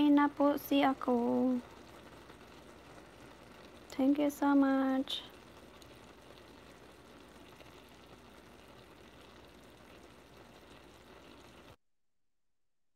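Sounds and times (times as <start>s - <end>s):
vegetables sizzling in a pan: 0.0s - 11.8s.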